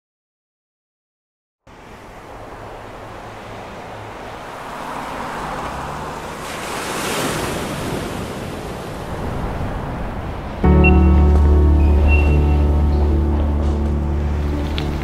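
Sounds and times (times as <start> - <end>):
wind: 1.6 - 15.0
ocean waves washing: 1.7 - 15.0.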